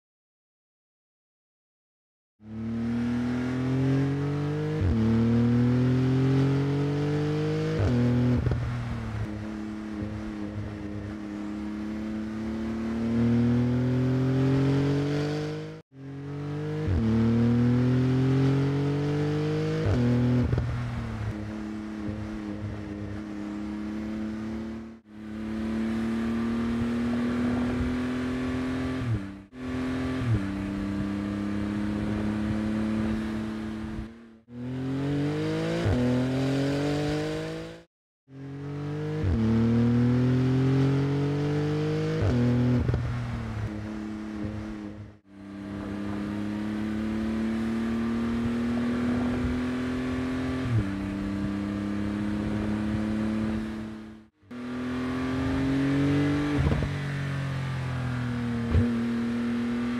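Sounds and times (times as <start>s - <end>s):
sports car engine accelerating: 2.4s - 59.9s.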